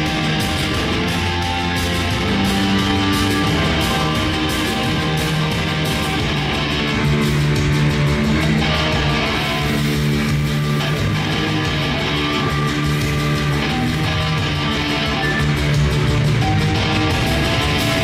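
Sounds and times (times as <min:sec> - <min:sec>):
electric guitar long held notes: 0:00.0 - 0:18.0
live rock band playing: 0:00.0 - 0:18.0.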